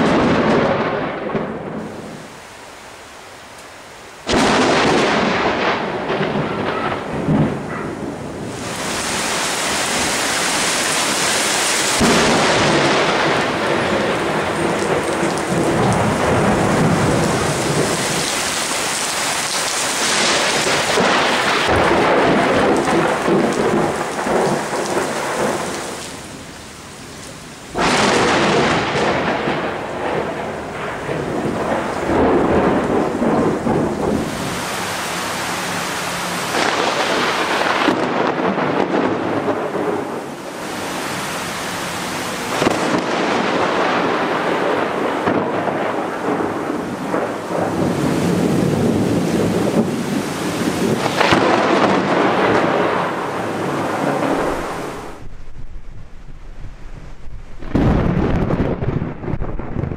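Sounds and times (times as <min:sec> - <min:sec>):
rolling thunder: 0:00.0 - 0:02.2, 0:04.2 - 0:26.4, 0:27.7 - 0:34.8, 0:36.3 - 0:40.6, 0:42.4 - 0:59.9
sharp crack of close thunder: 0:00.0 - 0:02.2, 0:04.2 - 0:26.4, 0:27.7 - 0:34.8, 0:36.3 - 0:40.6, 0:42.4 - 0:56.3, 0:57.1 - 0:59.9
heavy rain: 0:00.0 - 0:59.9.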